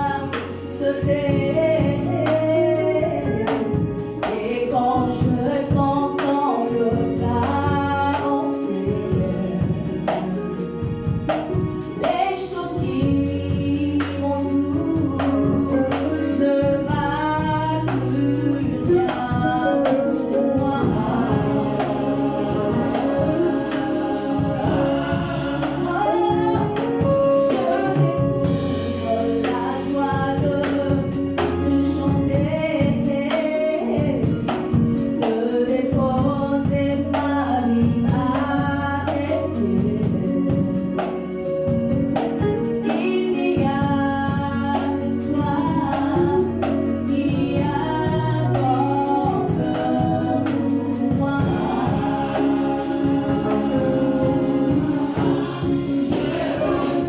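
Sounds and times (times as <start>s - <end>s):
band with bass and beat: 0.0s - 57.0s
choir singing: 0.0s - 57.0s.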